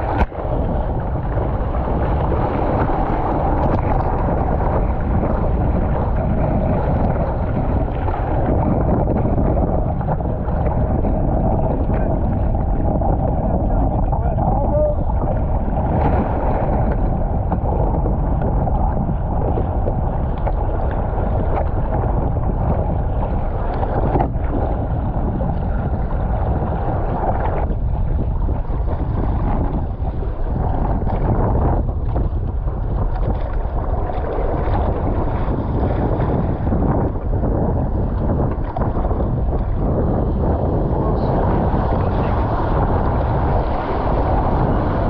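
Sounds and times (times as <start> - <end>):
water rushing and splashing: 0.0 - 45.0
wind buffeting microphone: 0.0 - 45.0.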